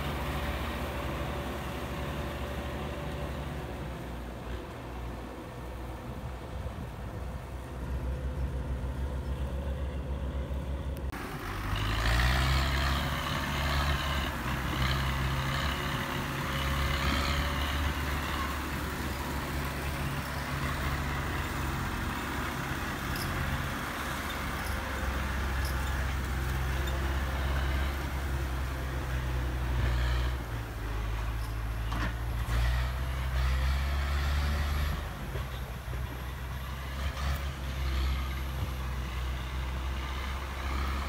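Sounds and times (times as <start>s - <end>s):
diesel tractor engines running: 0.0s - 41.0s.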